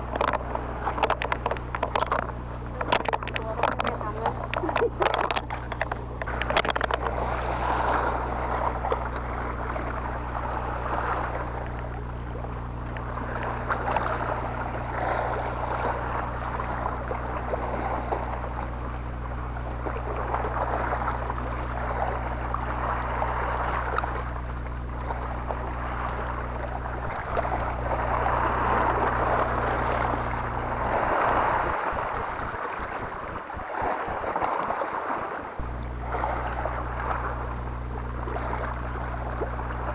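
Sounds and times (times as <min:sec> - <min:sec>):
low hum: 0:00.0 - 0:39.9
waves surging against rocks: 0:00.0 - 0:39.9.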